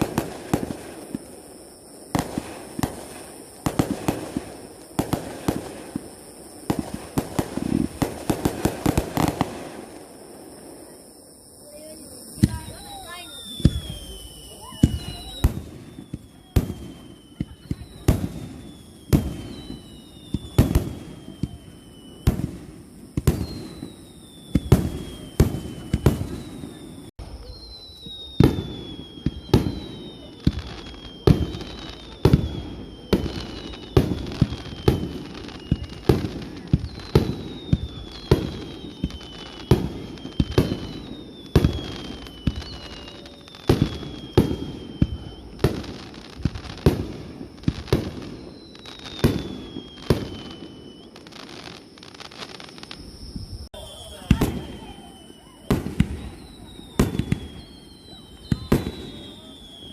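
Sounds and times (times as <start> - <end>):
fireworks bangs: 0.0 - 59.9
high falling whistles: 0.0 - 59.9.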